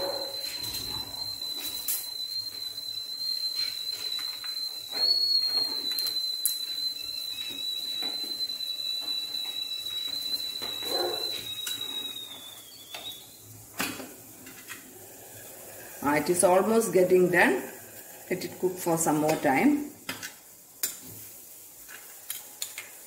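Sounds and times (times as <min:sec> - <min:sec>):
steam whistling through lid vent: 0:00.0 - 0:20.0.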